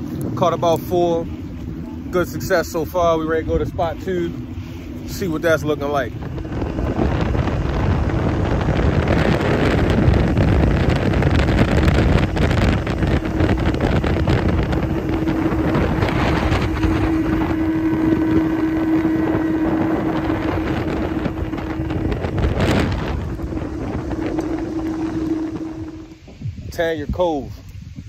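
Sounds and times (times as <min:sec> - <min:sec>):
outboard motor running: 0:00.0 - 0:27.3
wind buffeting microphone: 0:00.0 - 0:28.0.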